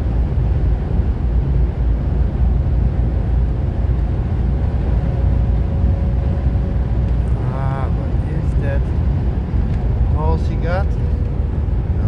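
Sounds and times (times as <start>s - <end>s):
car engine low rumble: 0.0s - 12.0s
tyre road noise: 0.0s - 12.0s.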